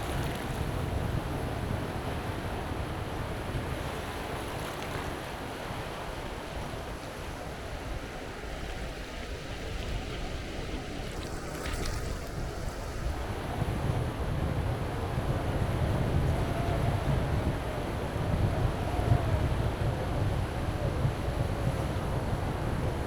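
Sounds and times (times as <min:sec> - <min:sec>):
waves washing onto beach: 0:00.0 - 0:23.0
wind buffeting microphone: 0:00.0 - 0:23.0.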